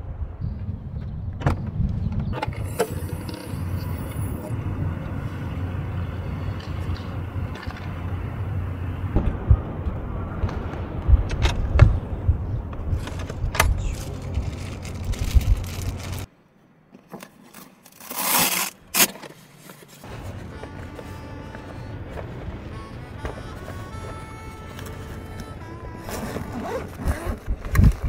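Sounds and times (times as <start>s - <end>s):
wind buffeting microphone: 0.0s - 16.3s, 20.1s - 28.0s.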